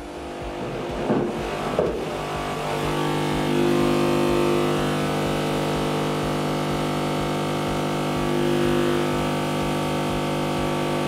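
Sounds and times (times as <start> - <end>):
loudspeaker low test tone: 0.0 - 11.0.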